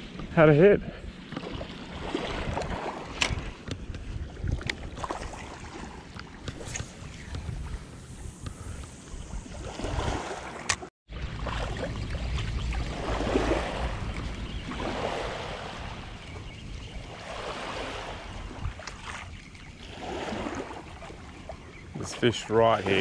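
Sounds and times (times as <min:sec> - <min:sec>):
wind rumbling on microphone: 0:01.0 - 0:23.0
small waves washing on shore: 0:01.3 - 0:23.0.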